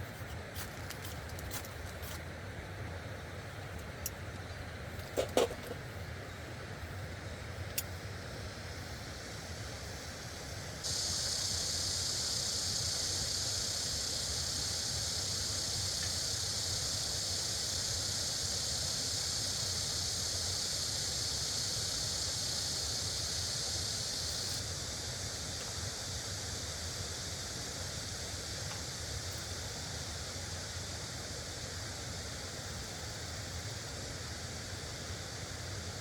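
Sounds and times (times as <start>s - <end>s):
strong high hiss: 0.0s - 36.0s.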